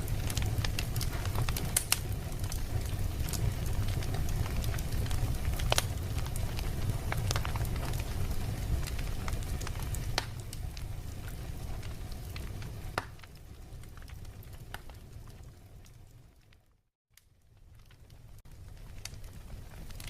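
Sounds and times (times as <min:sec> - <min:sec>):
fire crackling and popping: 0:00.0 - 0:20.0
wood fire rumbling: 0:00.0 - 0:20.0.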